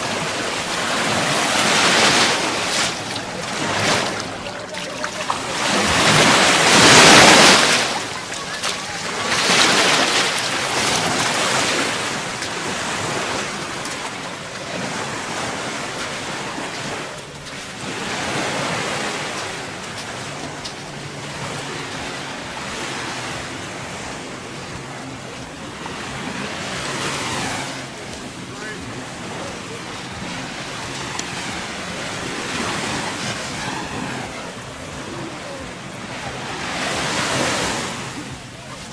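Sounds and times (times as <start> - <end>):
surf waves breaking on beach: 0.0 - 38.9.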